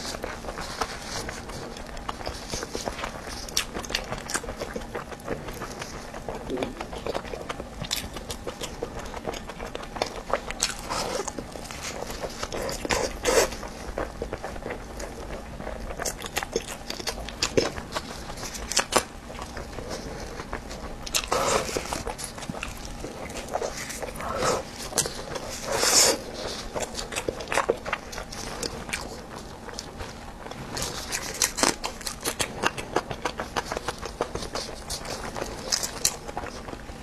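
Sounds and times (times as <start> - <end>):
chewing with sharp crackles: 0.0 - 37.0.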